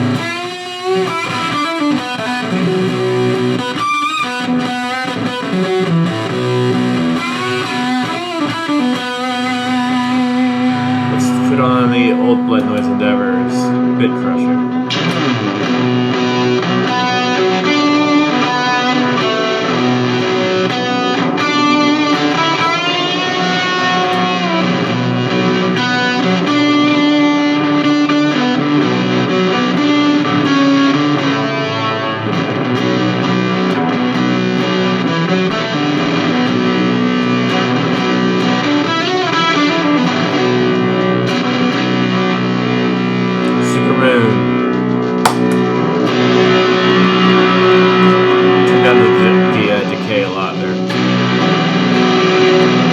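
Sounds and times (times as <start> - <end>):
fuzz-distorted electric guitar: 0.0 - 52.9.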